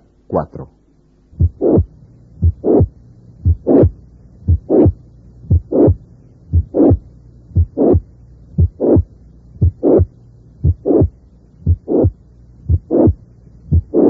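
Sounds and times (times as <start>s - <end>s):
blowing heart murmur: 1.4s - 7.0s, 7.6s - 14.0s
heartbeat thuds: 1.4s - 14.0s.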